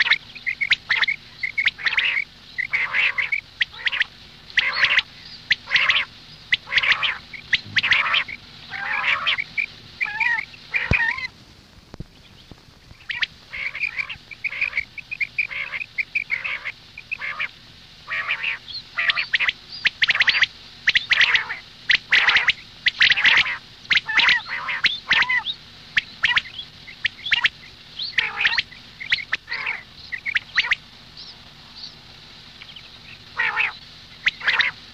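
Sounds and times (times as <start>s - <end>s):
birds squawking: 0.0s - 11.4s, 12.2s - 34.9s.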